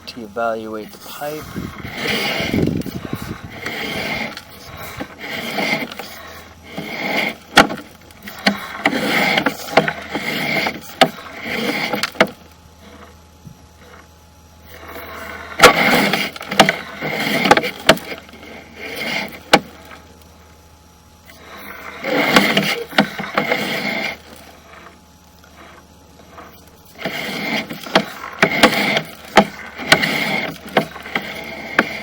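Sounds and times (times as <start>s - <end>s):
cable scraping through pipe: 0.6s - 20.3s, 21.2s - 32.0s.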